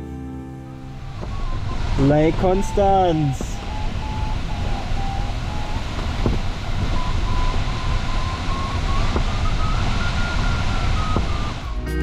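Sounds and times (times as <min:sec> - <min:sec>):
rush of airflow: 0:00.8 - 0:11.8
variometer tone climbing in pitch: 0:00.8 - 0:12.0.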